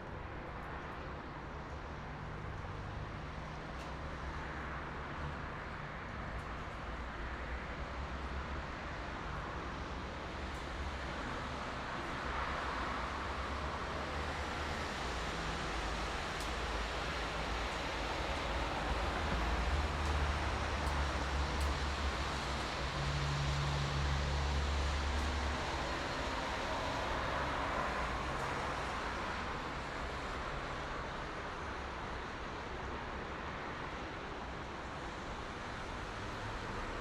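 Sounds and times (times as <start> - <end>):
highway traffic noise: 0.0 - 37.0.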